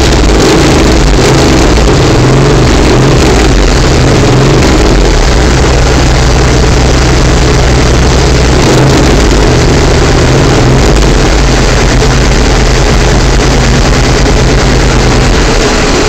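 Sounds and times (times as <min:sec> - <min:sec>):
motorcycle engine running under load: 0:00.0 - 0:16.0.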